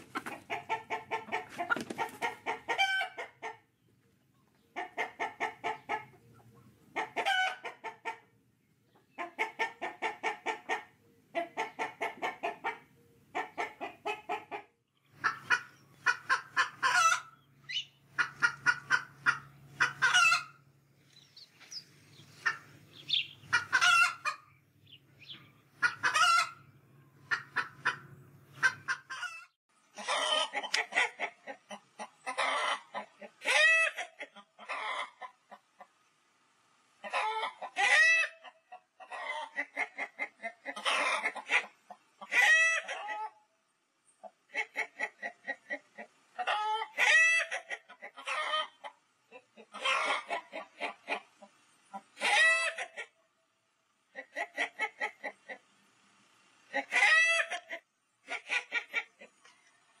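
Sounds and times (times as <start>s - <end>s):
chickens clucking: 0.0s - 43.4s, 44.0s - 60.0s.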